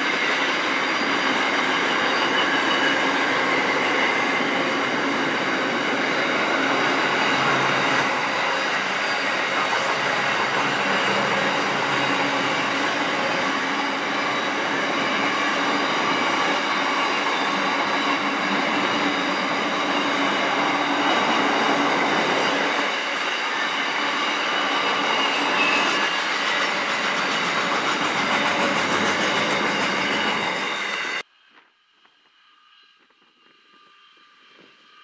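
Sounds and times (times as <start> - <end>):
train wheels clickety-clack: 0.0 - 32.3.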